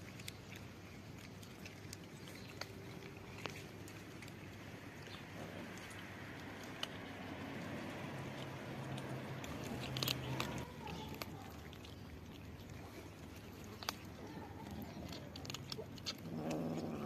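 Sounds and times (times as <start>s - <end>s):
kittens crunching dry kibble: 0.0s - 17.0s.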